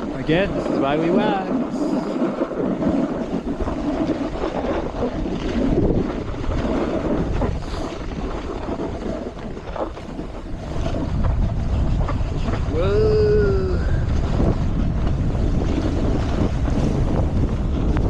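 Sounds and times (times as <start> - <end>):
snowboard scraping over snow: 0.0 - 18.0
wind buffeting microphone: 0.0 - 18.0.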